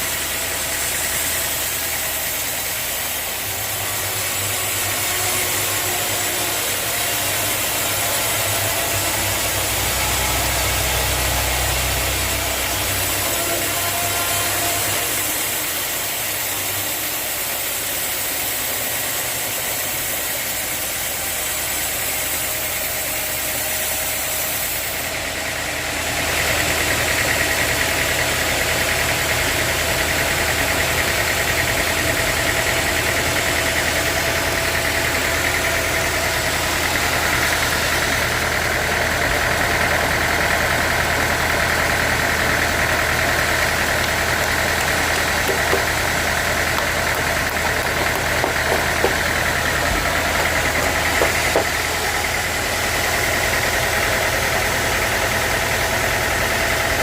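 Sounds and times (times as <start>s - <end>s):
sawmill saw droning: 0.0s - 57.0s.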